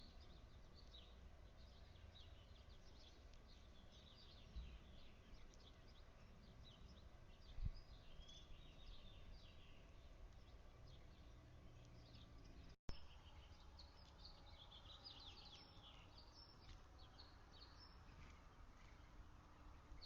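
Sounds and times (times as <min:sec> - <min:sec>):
low outdoor background hum: 0:00.0 - 0:20.0
small songbirds chirping: 0:00.0 - 0:20.0.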